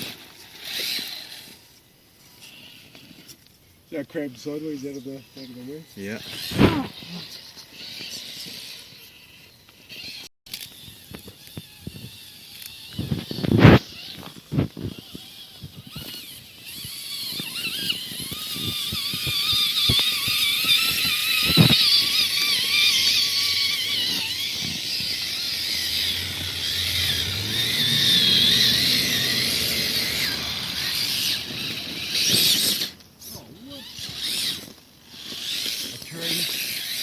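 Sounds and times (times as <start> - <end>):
toy truck electric motor whining: 0.0 - 37.0.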